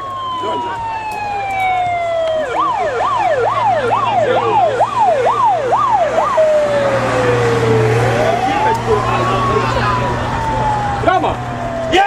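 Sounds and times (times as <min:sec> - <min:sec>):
electronic siren: 0:00.0 - 0:12.0.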